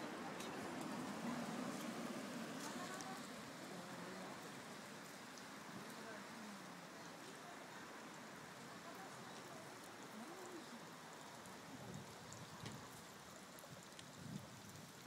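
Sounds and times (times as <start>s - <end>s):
faint voices: 0.0s - 12.5s
stream rushing: 0.0s - 15.0s.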